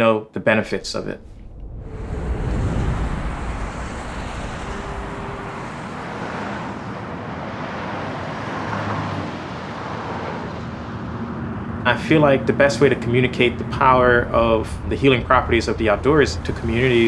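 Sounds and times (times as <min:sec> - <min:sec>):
road traffic: 0:00.7 - 0:17.0.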